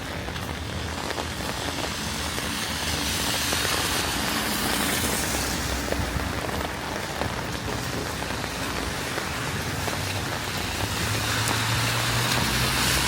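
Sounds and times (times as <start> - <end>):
rain pattering: 0.0 - 13.0
vehicle passing on wet road: 0.0 - 13.0.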